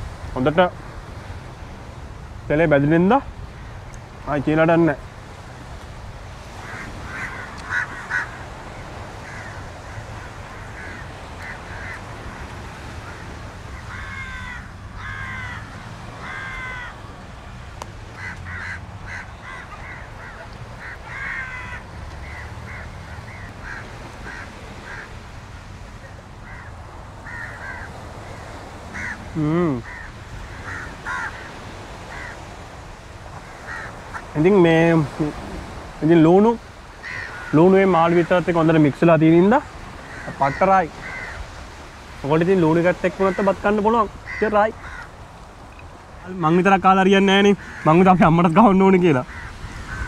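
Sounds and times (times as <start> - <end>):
birds calling: 3.4 - 50.0.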